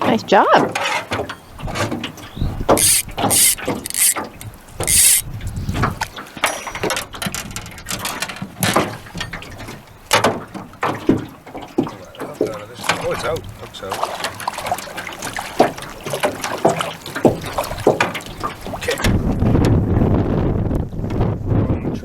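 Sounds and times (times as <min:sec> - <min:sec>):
boat handling knocks and rattles: 0:00.0 - 0:05.1, 0:05.7 - 0:20.0.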